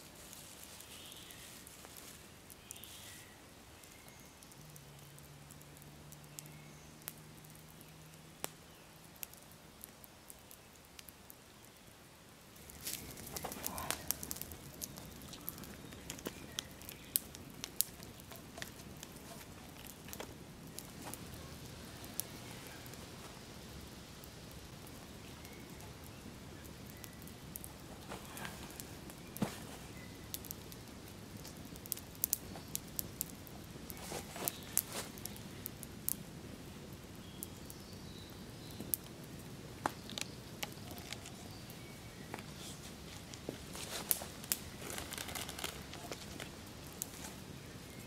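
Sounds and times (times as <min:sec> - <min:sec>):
campfire wood crackling: 0:00.0 - 0:48.0.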